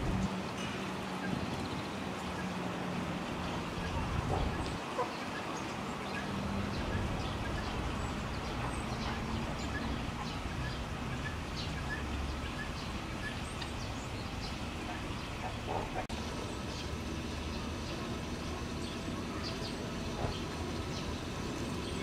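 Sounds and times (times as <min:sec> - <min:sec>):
small birds chirping: 0:00.2 - 0:22.0.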